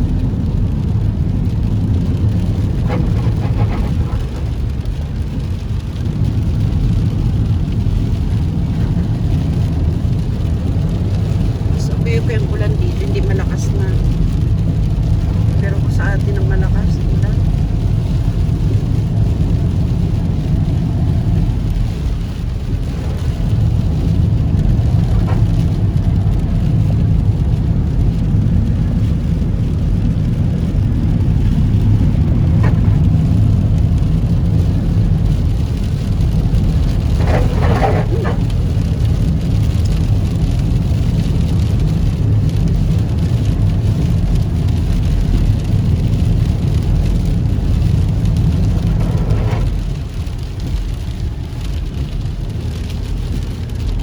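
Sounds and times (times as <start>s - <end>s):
car engine and tyre rumble: 0.0s - 54.0s
heavy rain: 0.0s - 54.0s.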